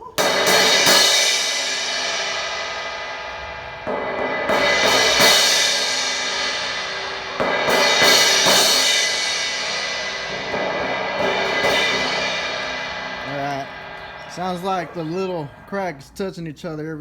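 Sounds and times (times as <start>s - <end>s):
cracked crash cymbal struck: 0.2s - 16.3s.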